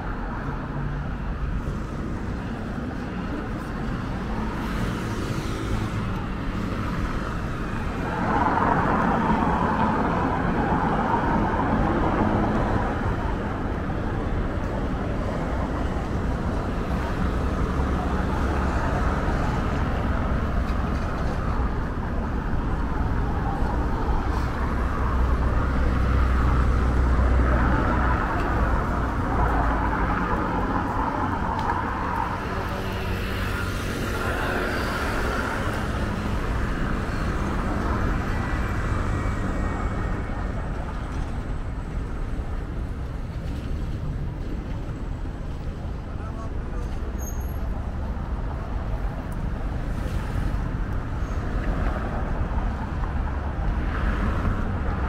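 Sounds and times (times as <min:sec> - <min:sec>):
cars passing on street: 0:00.0 - 0:55.0.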